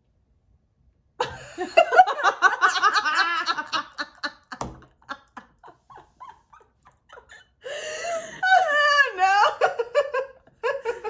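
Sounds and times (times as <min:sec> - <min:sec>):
women laughing: 0:01.2 - 0:11.0.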